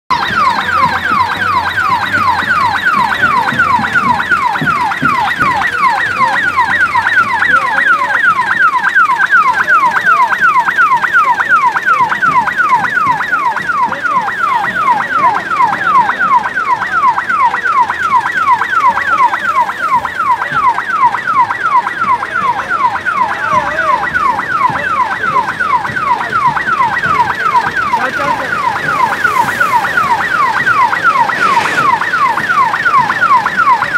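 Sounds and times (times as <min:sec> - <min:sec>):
electronic siren wailing: 0:00.1 - 0:33.9.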